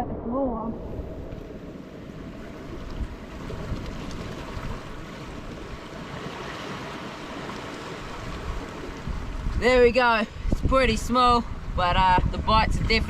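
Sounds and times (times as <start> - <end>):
wind buffeting microphone: 0.0 - 13.0
sea surf against rocks: 0.6 - 13.0.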